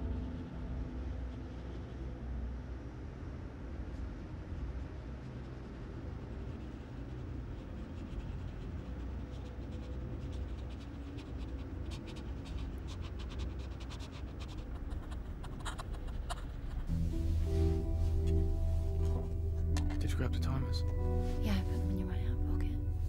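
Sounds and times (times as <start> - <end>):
low rumbling drone: 0.0 - 23.0.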